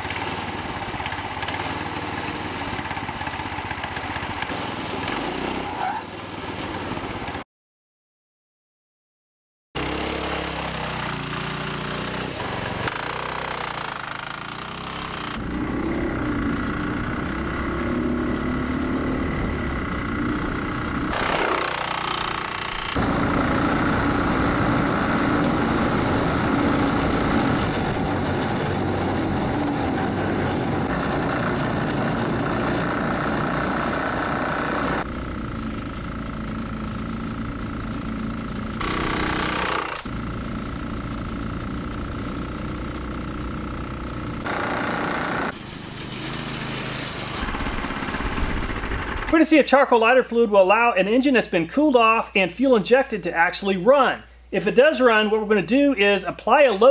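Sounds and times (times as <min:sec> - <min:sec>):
go-kart engine at high revs: 0:00.0 - 0:07.4, 0:09.8 - 0:49.4.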